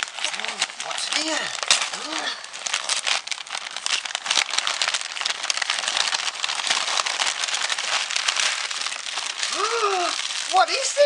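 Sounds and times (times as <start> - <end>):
wrapping paper tearing and crinkling: 0.0 - 11.0.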